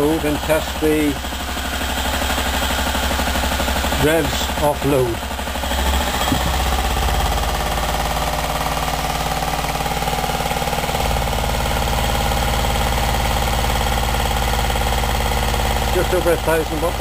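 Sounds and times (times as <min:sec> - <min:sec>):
engine fast mechanical beat: 0:00.0 - 0:17.0.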